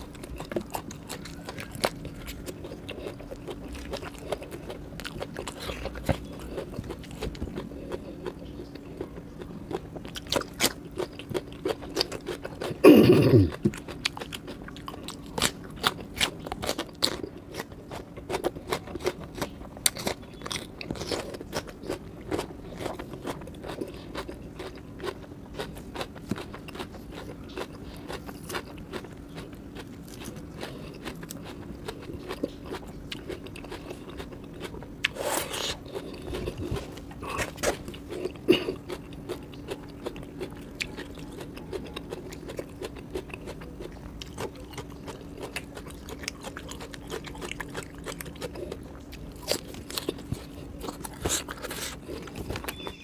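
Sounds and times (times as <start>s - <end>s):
crunching and chewing food: 0.0s - 53.0s
faint steady hum: 0.0s - 53.0s.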